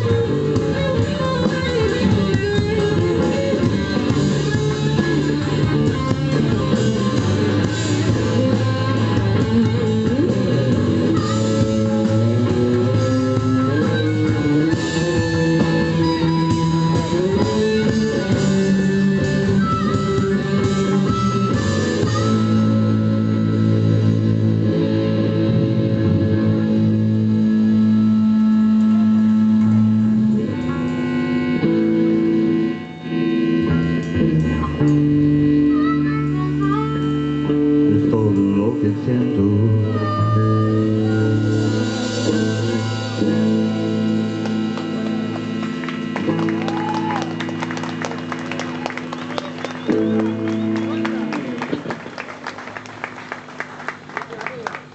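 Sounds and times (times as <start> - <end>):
bass guitar: 0.0 - 54.9
blues band instrumental: 0.0 - 54.9
lead guitar: 0.0 - 54.9.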